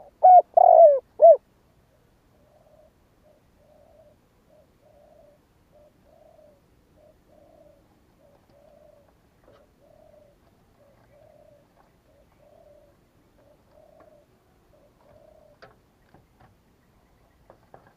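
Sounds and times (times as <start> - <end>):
dove cooing: 0.0 - 1.4, 2.3 - 15.8.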